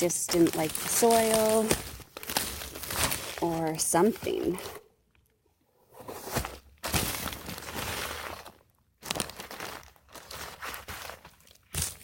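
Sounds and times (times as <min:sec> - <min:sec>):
scraping and crunching soil: 0:00.0 - 0:04.8, 0:06.0 - 0:12.0.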